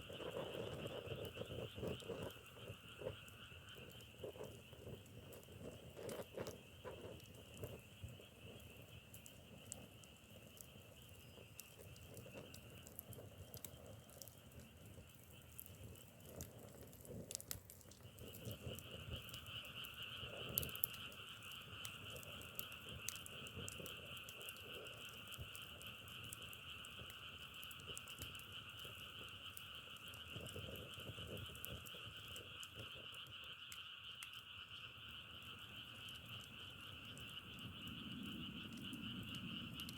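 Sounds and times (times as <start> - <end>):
firewood crackling and popping: 0.0 - 39.9
frogs trilling: 0.0 - 39.9.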